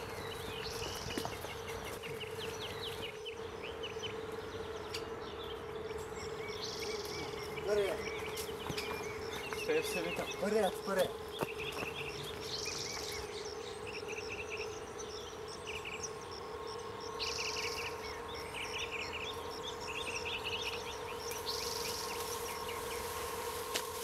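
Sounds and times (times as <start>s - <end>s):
loud bird calls: 0.0s - 23.5s
songbirds chirping: 0.0s - 24.0s
steady hum: 0.0s - 24.0s.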